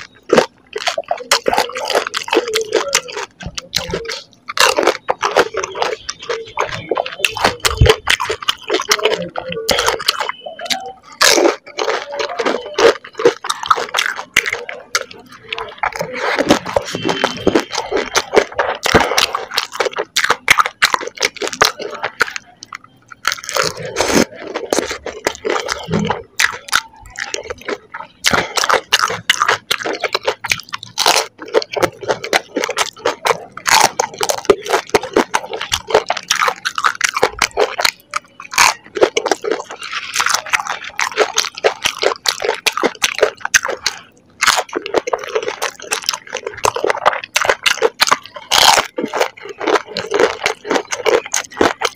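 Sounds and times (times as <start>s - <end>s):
crunching and chewing crisp shells: 0.0s - 51.9s.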